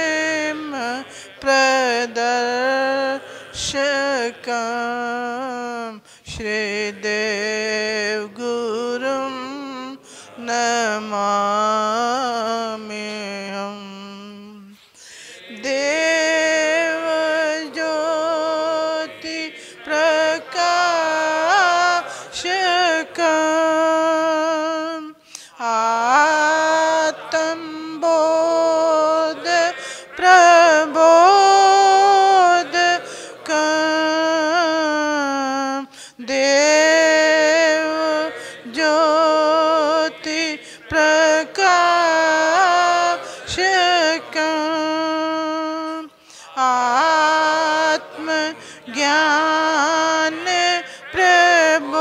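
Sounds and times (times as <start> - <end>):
women singing a devotional hymn: 0.0 - 52.0.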